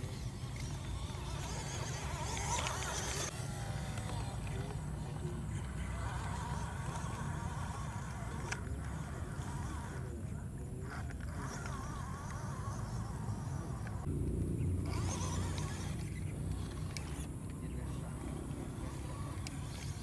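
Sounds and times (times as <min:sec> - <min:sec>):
small electric motor whining: 0:00.0 - 0:20.0.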